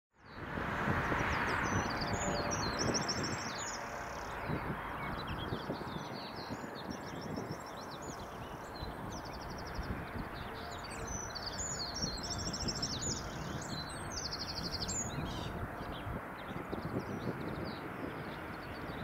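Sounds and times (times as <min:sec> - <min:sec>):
steady rushing noise: 0:00.3 - 0:19.0
small birds chirping: 0:01.1 - 0:19.0.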